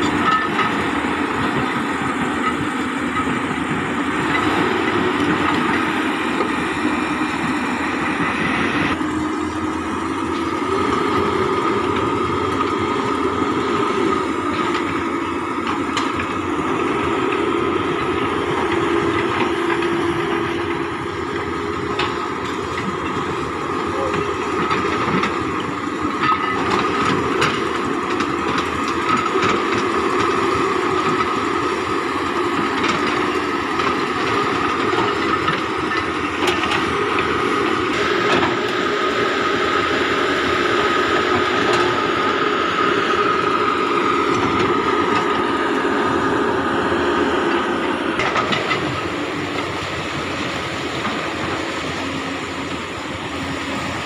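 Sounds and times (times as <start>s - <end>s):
excavator engine and hydraulic drone: 0.0s - 54.0s
steel tracks clanking: 0.0s - 54.0s.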